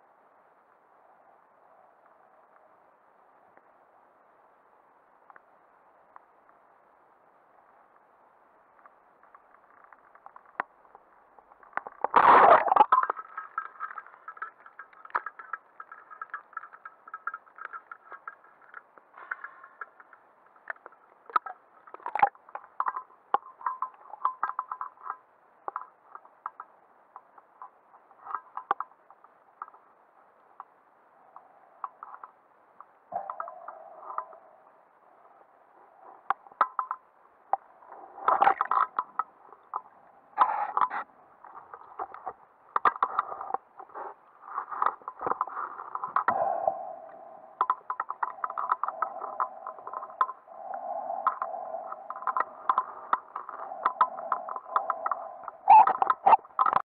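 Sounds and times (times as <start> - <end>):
sharp underwater clicks: 8.8 - 56.8.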